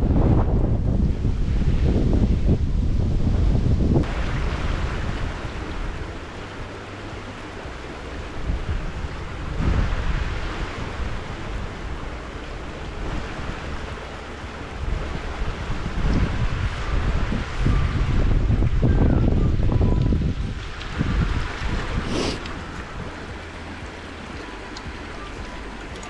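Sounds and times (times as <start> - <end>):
gusty wind buffeting microphone: 0.0 - 26.0
stream water rushing: 0.0 - 26.0.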